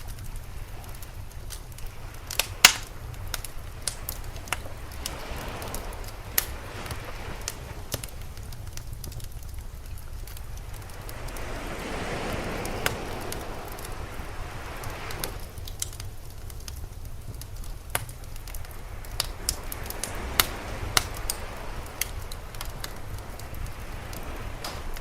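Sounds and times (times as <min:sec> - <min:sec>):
fire crackling and popping: 0:00.0 - 0:25.0
sea waves washing: 0:00.0 - 0:25.0
steady low rumble: 0:00.0 - 0:25.0.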